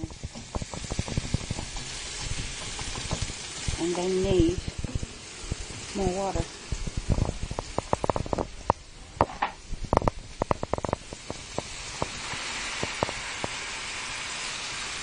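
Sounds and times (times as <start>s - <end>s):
water sizzling in hot pan: 0.0s - 15.0s.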